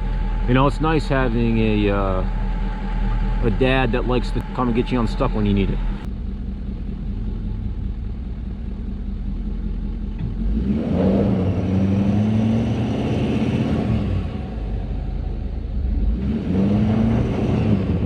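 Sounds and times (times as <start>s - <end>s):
truck engine idling and revving: 0.0s - 18.0s.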